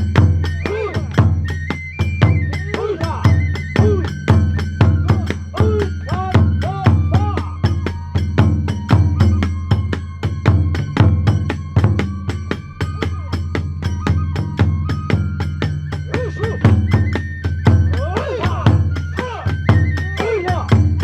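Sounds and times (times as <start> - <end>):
bamboo flute melody: 0.0 - 21.0
taiko drums beating: 0.0 - 21.0.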